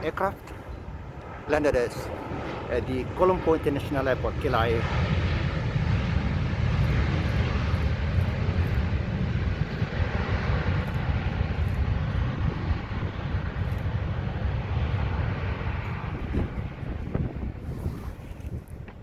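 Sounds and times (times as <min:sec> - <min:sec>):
airliner engine roar: 0:00.0 - 0:19.0.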